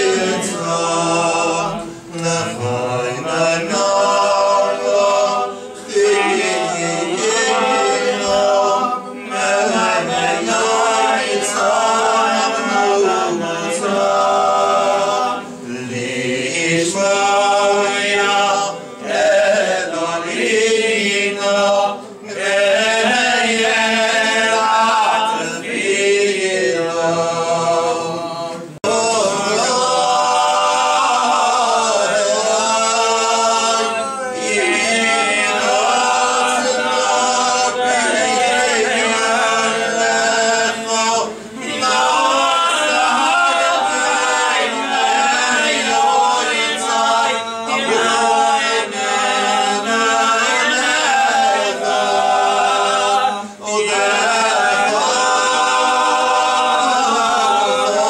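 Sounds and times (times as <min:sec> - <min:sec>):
men singing prayer unaccompanied: 0:00.0 - 0:58.0.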